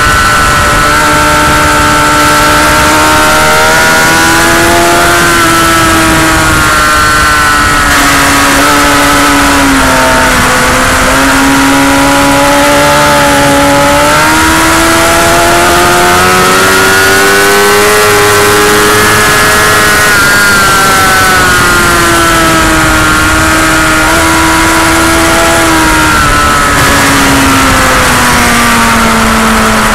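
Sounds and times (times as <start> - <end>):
motorcycle engine at high revs: 0.0 - 29.9.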